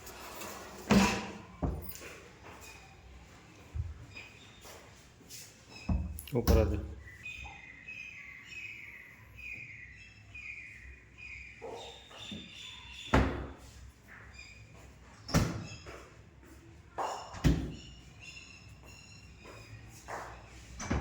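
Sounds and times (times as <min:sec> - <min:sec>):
small birds chirping faintly: 0:01.4 - 0:21.0.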